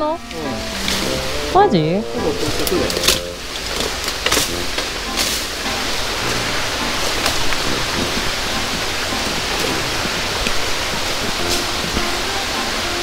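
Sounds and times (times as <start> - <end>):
sea surf breaking on shore: 0.0 - 13.0
footsteps crackling on dry leaves: 0.2 - 12.8.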